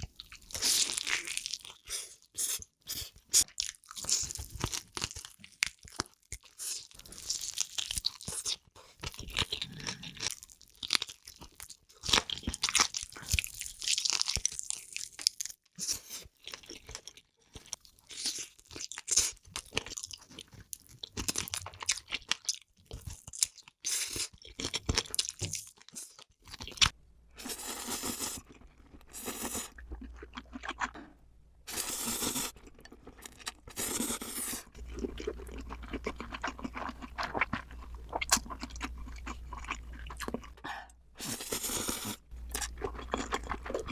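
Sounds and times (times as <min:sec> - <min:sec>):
crunchy chewing and biting: 0:00.3 - 0:40.6, 0:41.2 - 0:43.9.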